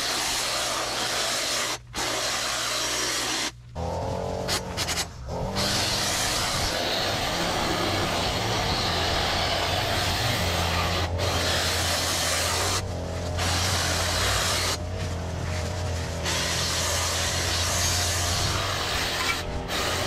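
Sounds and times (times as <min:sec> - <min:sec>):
power trimmer rasping: 0:00.0 - 0:20.0.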